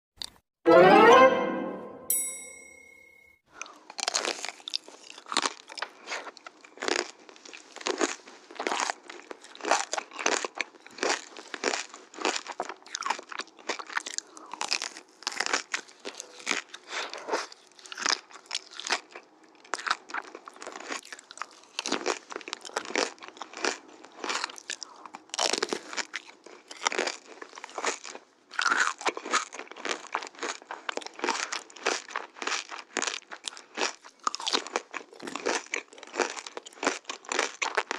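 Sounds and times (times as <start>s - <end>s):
crunching and chewing ice cream bar: 3.5s - 37.9s.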